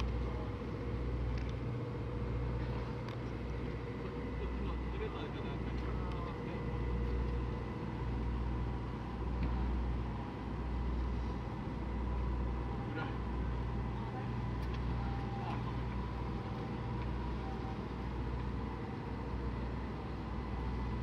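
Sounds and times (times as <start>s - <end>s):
bus low rumble: 0.0s - 21.0s
faint high whine: 0.0s - 21.0s.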